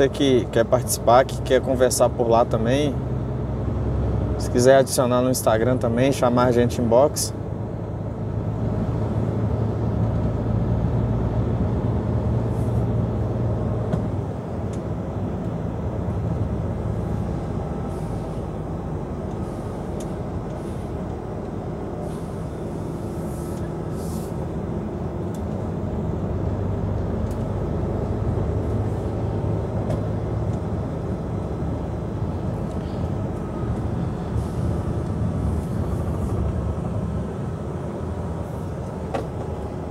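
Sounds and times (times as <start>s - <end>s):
truck diesel engine running: 0.0s - 39.9s
tyre and road noise: 2.6s - 39.9s.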